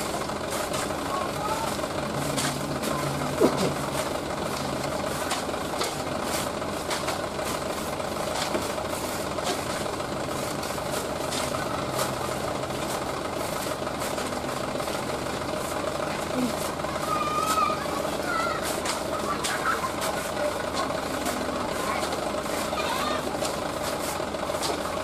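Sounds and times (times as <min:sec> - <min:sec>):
diesel engine idling: 0:00.0 - 0:25.0
shovels scraping sand: 0:00.0 - 0:25.0.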